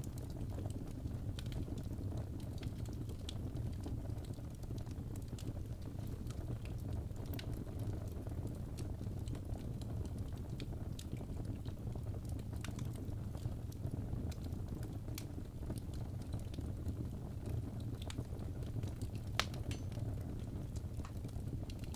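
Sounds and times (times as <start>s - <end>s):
fireplace fire crackling: 0.0s - 21.9s.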